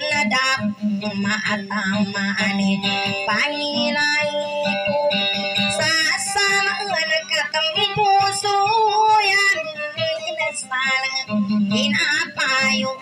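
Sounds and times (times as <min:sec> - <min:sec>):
strummed acoustic guitar: 0:00.0 - 0:13.0
woman singing: 0:00.0 - 0:13.0.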